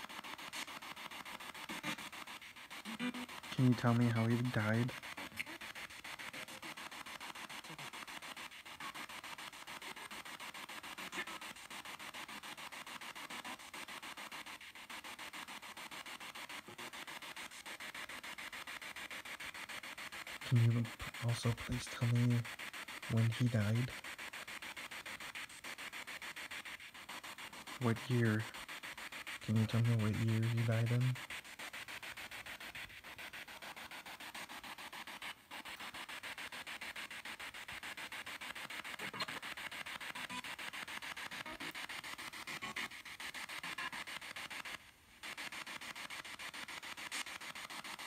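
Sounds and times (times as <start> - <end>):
pulsing radio static: 0.0 - 48.0.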